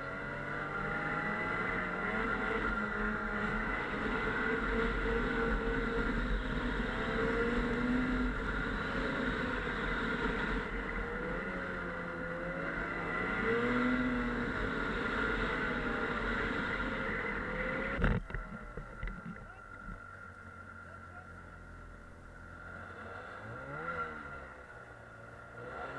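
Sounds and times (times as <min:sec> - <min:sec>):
snowmobile engine running: 0:00.0 - 0:25.9.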